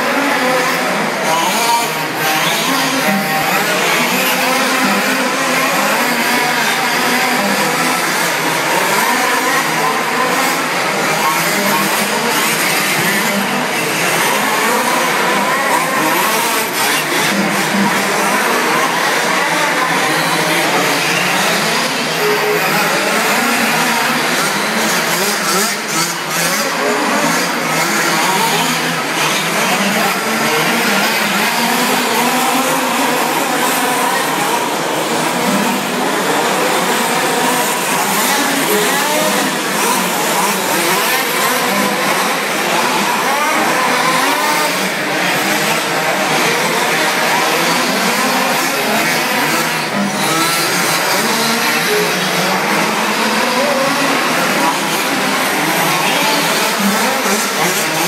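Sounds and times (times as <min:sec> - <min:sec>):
rc car motors whining: 0:00.0 - 0:58.0.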